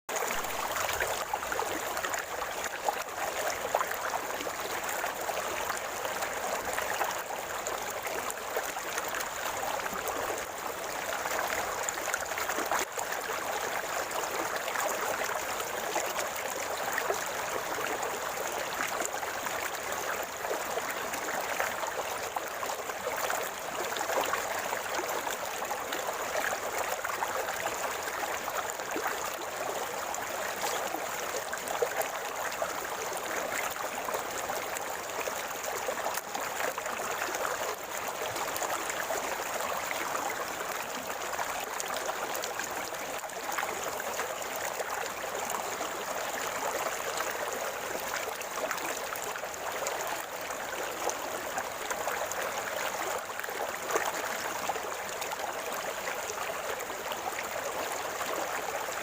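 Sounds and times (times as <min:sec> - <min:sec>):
river water gurgling: 0:00.1 - 0:59.0.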